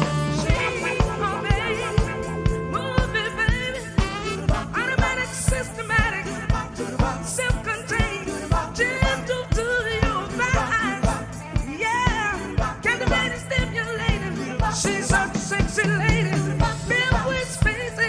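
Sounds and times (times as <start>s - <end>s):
live soul band playing: 0.0s - 18.0s
person singing: 0.0s - 18.0s
steady drum beat: 0.0s - 18.0s.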